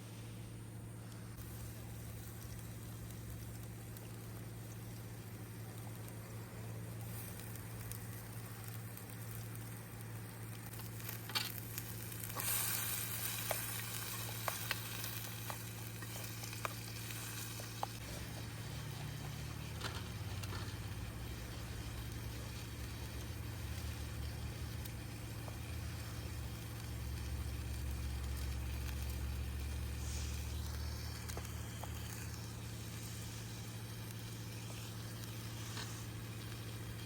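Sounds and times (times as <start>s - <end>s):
food sizzling in a pan: 1.4s - 37.0s.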